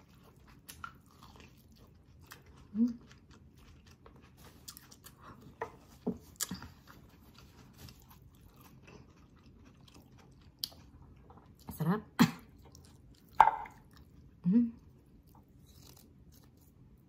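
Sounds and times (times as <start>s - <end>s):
person chewing food: 0.0s - 11.7s, 12.4s - 17.0s.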